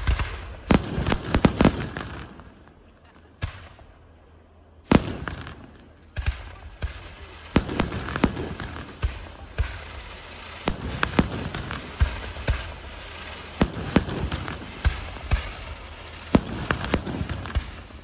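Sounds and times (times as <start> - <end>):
firework bangs: 0.0 - 18.0
firework crackling: 0.0 - 18.0.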